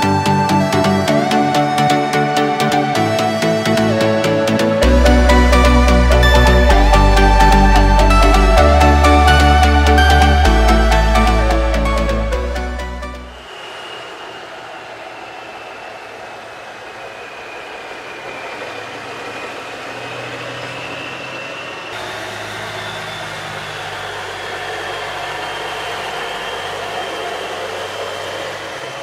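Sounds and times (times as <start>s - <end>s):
diesel engine running slowly: 0.0s - 29.0s
thin steady high whine: 0.0s - 29.0s.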